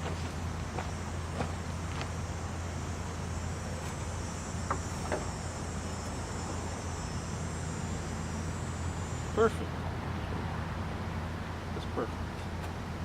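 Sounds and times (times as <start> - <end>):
constant low hum: 0.0 - 13.0
insects buzzing: 0.0 - 13.0.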